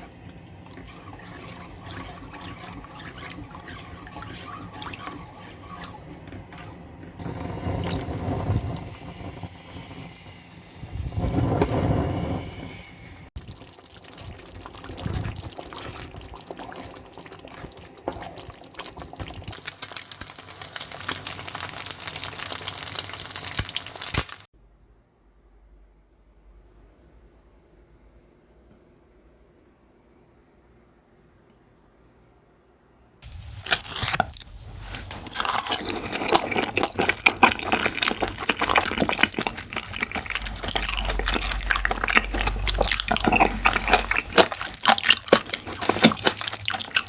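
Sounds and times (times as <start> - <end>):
water pouring and running: 0.0 - 24.5, 33.2 - 47.0.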